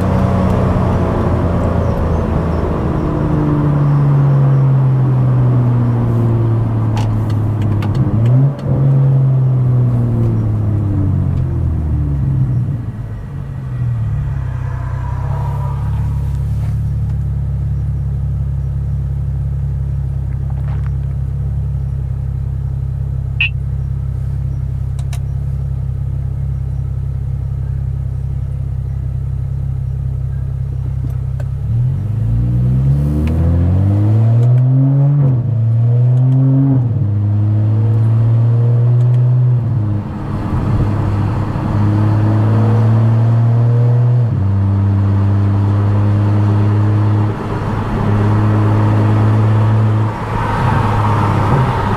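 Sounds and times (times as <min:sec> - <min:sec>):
car engine through loud exhaust: 0:00.0 - 0:51.9.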